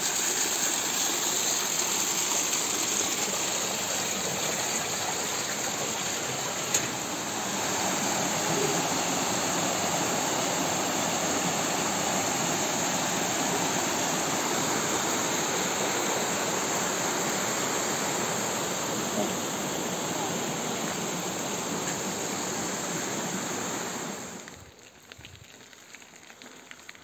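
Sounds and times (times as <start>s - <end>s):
stream rushing over rocks: 0.0s - 24.8s.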